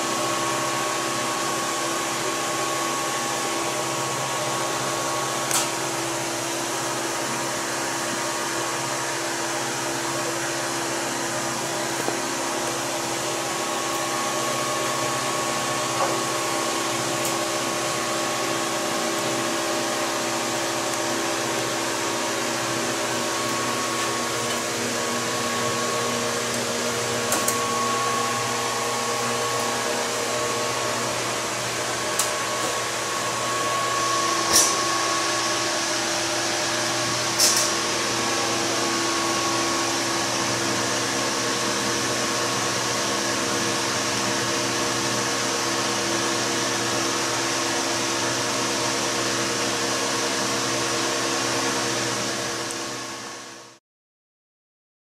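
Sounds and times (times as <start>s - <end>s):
machinery whirring and humming: 0.0s - 49.1s.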